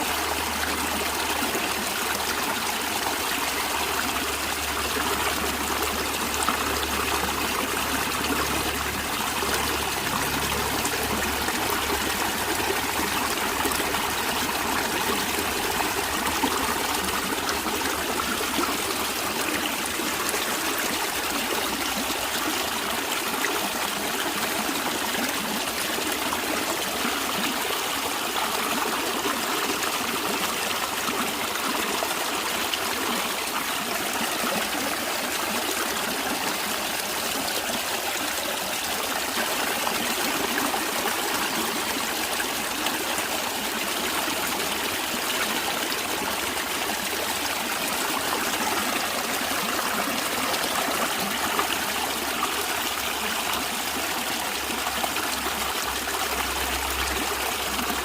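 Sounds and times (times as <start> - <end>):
stream flowing and trickling: 0.0 - 58.0.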